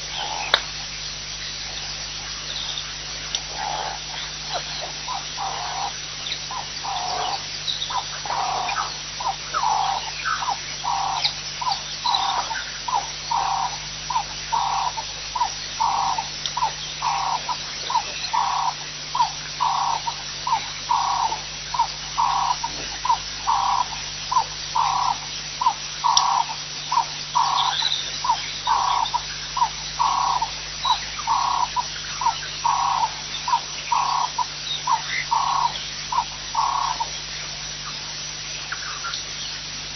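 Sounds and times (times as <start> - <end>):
steady low hum: 0.0 - 39.9
rhythmic animal calling: 3.3 - 37.8.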